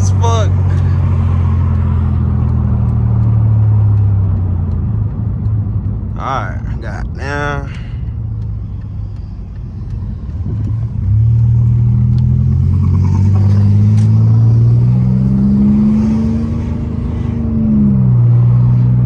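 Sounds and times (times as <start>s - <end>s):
car exhaust rumbling and droning: 0.0s - 19.0s.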